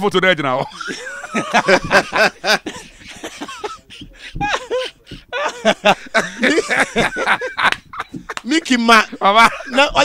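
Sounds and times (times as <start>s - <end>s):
man laughing: 0.6s - 10.0s.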